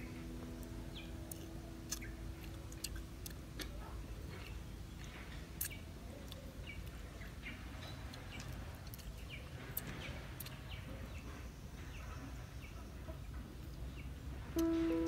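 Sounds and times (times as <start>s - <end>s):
low outdoor background: 0.0s - 15.0s
small birds chirping: 0.0s - 15.0s.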